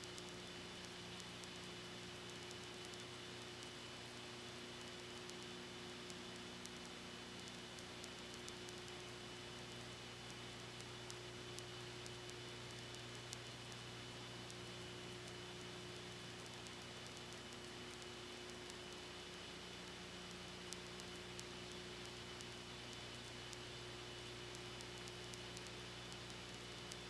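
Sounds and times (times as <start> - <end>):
faint ticks: 0.0 - 27.0
low electrical hum: 0.0 - 27.0
recording hiss: 0.0 - 27.0.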